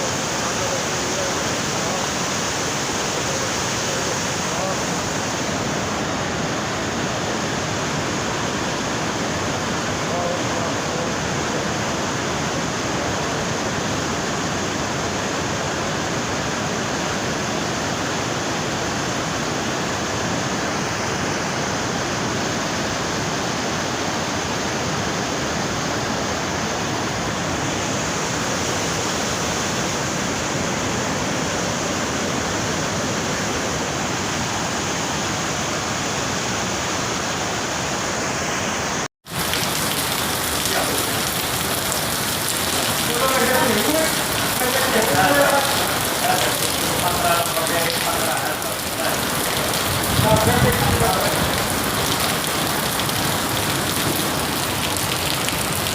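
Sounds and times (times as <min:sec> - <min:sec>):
rain hitting hard surface: 0:00.0 - 0:37.7, 0:38.5 - 0:55.9
heavy rain with rushing water: 0:00.0 - 0:55.9.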